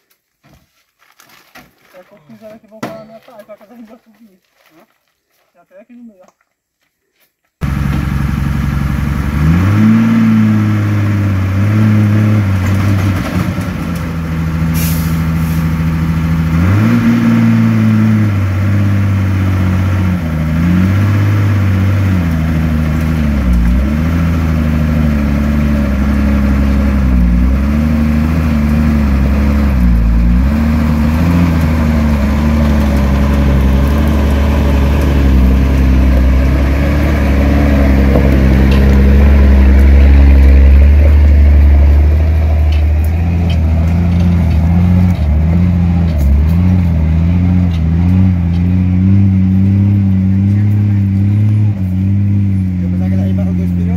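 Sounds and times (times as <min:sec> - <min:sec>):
truck diesel engine labouring: 0:07.6 - 0:53.9.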